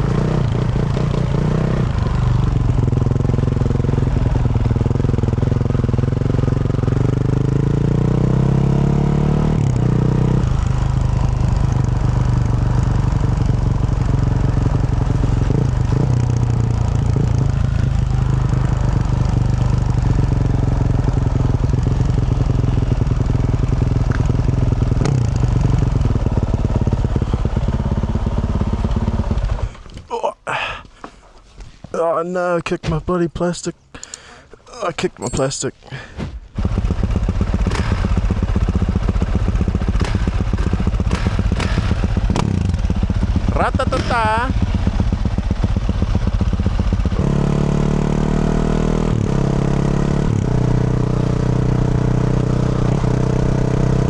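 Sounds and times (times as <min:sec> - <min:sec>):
motorcycle engine revving: 0:00.0 - 0:29.9, 0:36.5 - 0:54.0.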